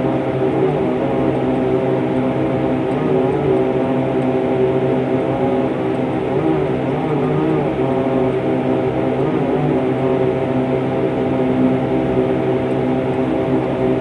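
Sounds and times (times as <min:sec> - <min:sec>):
propeller airplane engines: 0:00.0 - 0:14.0.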